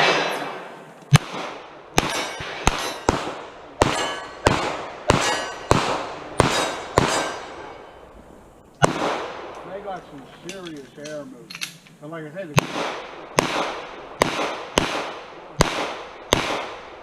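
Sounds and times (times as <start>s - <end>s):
pistol shots echoing: 0.0s - 11.9s, 12.5s - 17.0s.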